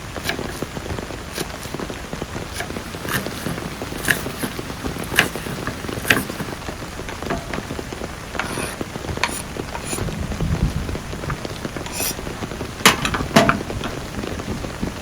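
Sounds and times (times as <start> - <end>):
sharp clicks and knocks: 0.0 - 14.5
heavy rain falling: 0.0 - 15.0.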